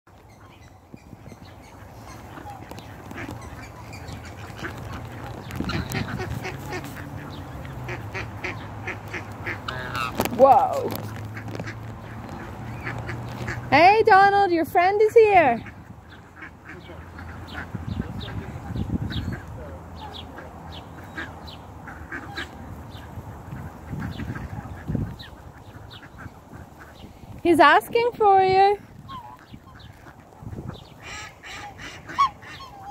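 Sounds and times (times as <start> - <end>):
ducks quacking: 1.3 - 32.9.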